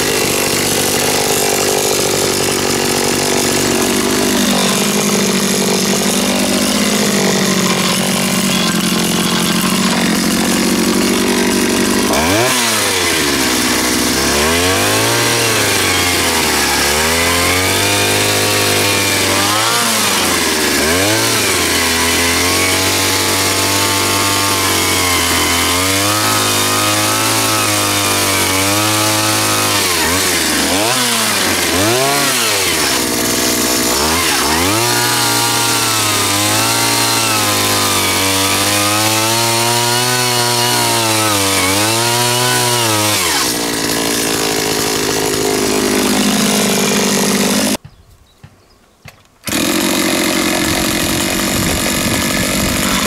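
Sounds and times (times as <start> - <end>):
power tool motor hum: 0.0 - 47.8, 49.4 - 53.0.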